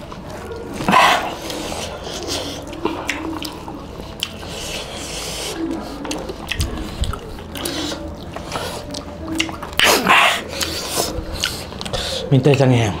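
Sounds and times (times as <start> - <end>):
wet chewing and mouth smacking: 0.0 - 12.9.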